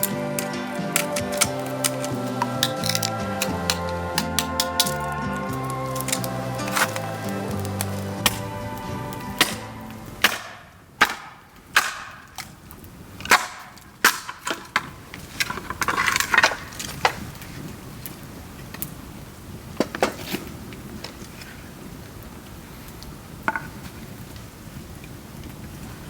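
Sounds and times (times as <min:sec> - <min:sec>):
bamboo popping in a bonfire: 0:00.0 - 0:26.0.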